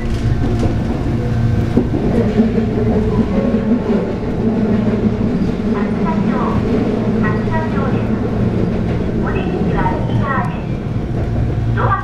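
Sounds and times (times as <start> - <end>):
low train hum: 0.0 - 12.0
train wheels rumbling on rail: 0.0 - 12.0.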